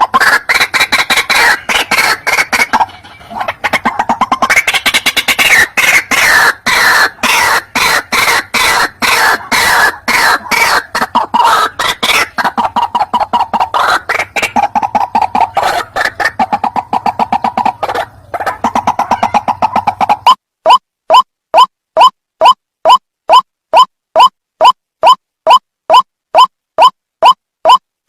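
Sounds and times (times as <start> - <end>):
waterhen calling: 0.0 - 27.8.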